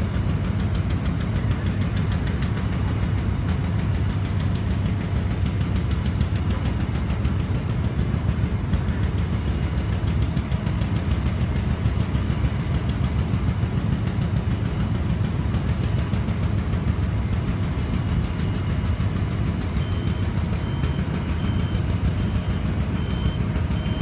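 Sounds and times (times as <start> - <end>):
heavy diesel engines rumbling: 0.0 - 24.0.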